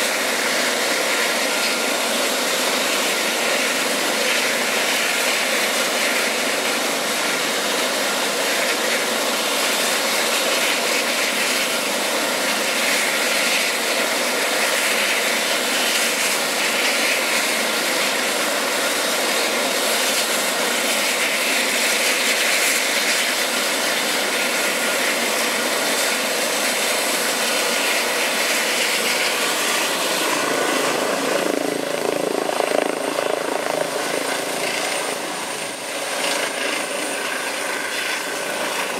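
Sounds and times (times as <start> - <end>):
helicopter rotor and turbines: 0.0 - 38.9.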